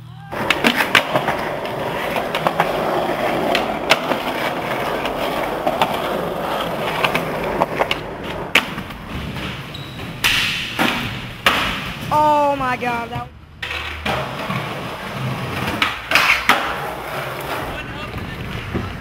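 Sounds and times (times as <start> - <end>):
skateboard clacking on ground: 0.3 - 11.9, 13.0 - 19.0
skateboard crash: 0.3 - 12.1, 13.6 - 19.0
skateboard wheels rolling: 0.3 - 19.0.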